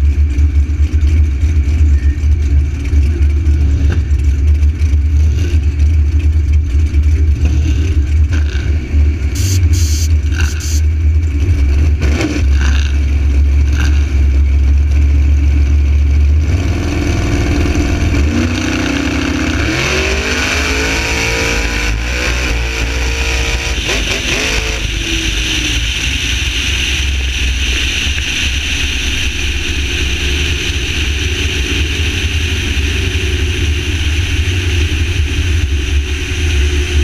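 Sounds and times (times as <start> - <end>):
car engine at full throttle: 0.0 - 37.0
engine winding down: 0.0 - 37.0.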